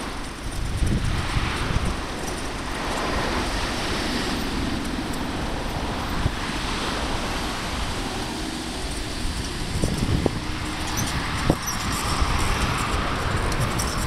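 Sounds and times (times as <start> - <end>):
cars passing: 0.0 - 14.0
wind on microphone: 0.0 - 14.0.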